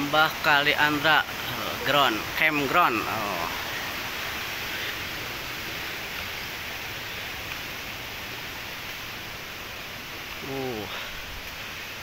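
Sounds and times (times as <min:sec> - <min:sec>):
river rushing over waterfall: 0:00.0 - 0:12.0.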